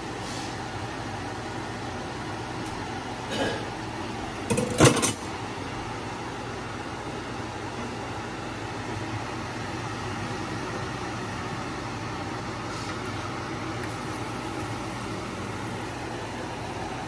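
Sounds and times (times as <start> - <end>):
vent fan hum and hiss: 0.0 - 17.0.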